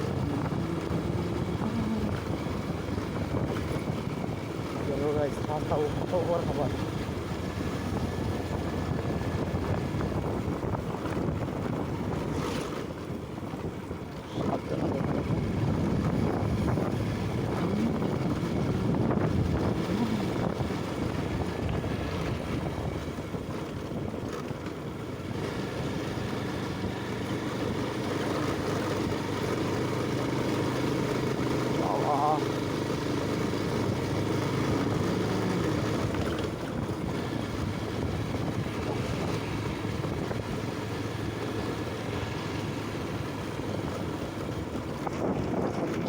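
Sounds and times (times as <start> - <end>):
wind rushing over microphone: 0.0 - 29.4, 30.3 - 46.0
motorcycle engine running: 0.0 - 46.0.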